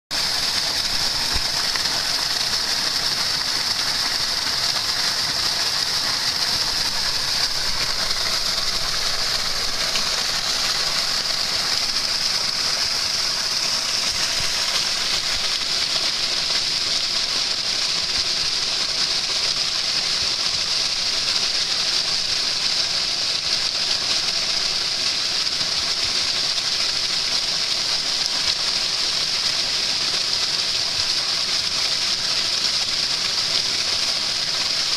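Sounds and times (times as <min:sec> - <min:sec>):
stream water splashing over stones: 0:00.1 - 0:34.9.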